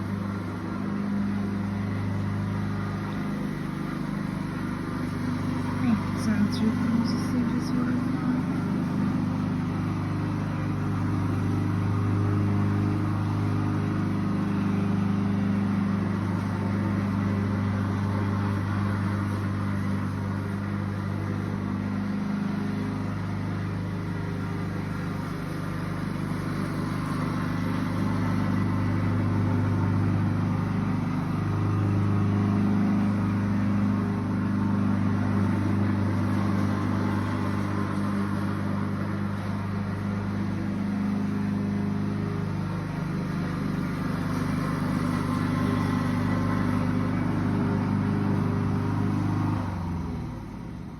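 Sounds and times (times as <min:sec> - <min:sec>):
lawnmower engine running: 0:00.0 - 0:50.9.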